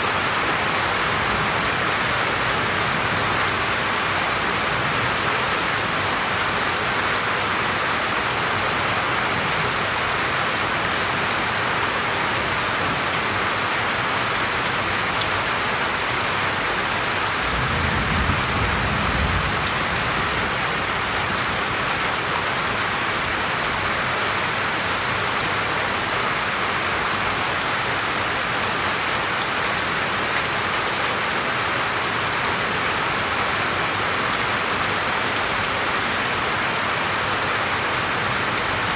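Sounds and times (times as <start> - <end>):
rain on roof and leaves: 0.0 - 38.9.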